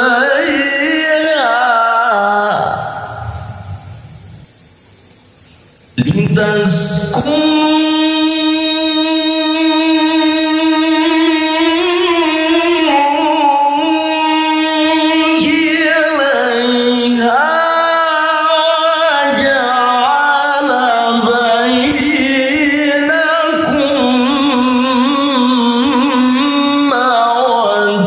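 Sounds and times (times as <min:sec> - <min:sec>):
man chanting into a microphone: 0:00.0 - 0:04.0, 0:06.0 - 0:28.0.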